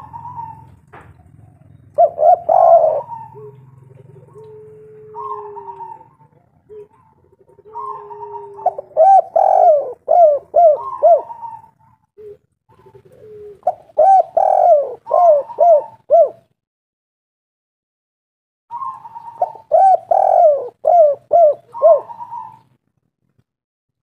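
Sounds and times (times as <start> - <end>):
dove cooing: 0.0 - 16.6, 18.7 - 22.8.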